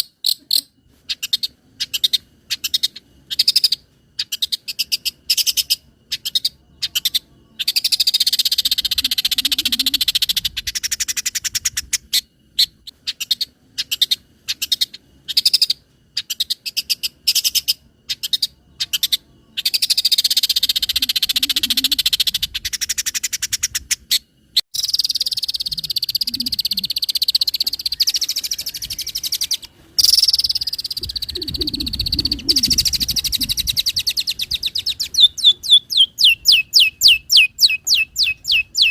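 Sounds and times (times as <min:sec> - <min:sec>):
shrike singing rattling trills: 0:00.0 - 0:38.9.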